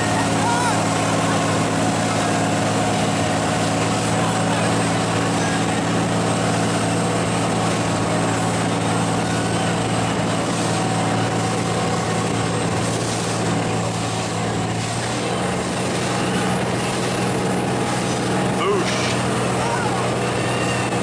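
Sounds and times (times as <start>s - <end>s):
boat engine running: 0.0s - 21.0s
rushing wake and wind: 0.0s - 21.0s.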